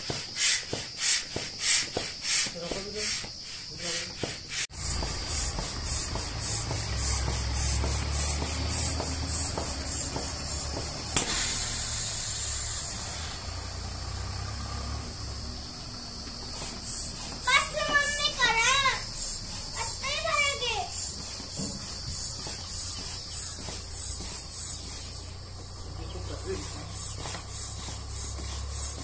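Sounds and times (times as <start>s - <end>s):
air pump blowing through hose: 0.0s - 14.0s, 16.2s - 29.0s.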